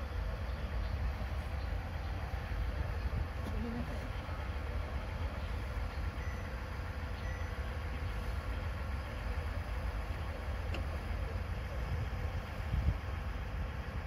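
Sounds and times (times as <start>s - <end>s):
diesel railcar idling: 0.0s - 14.0s.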